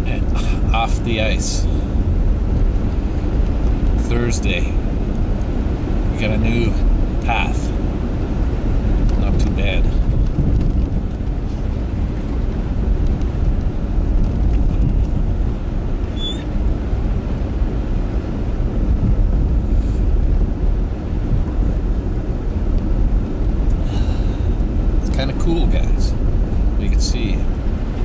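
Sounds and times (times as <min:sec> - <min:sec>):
vehicle rumbling over ice: 0:00.0 - 0:28.0
wind buffeting microphone: 0:00.0 - 0:28.0.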